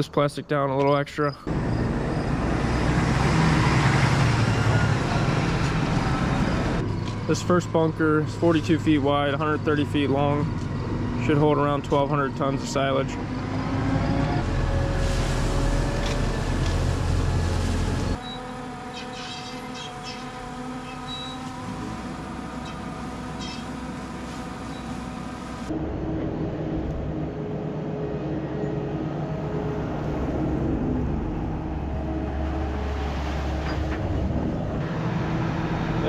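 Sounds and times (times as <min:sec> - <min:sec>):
diesel engines running: 0:01.2 - 0:36.0.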